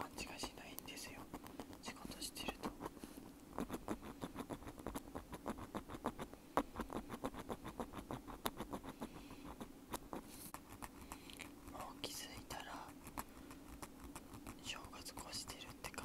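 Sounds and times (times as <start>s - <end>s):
ear pick scratching earbud: 0.1s - 16.0s.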